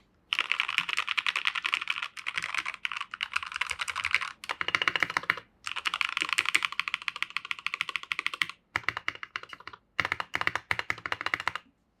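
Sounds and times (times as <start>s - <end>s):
fast typing on mechanical keyboard: 0.3s - 11.6s.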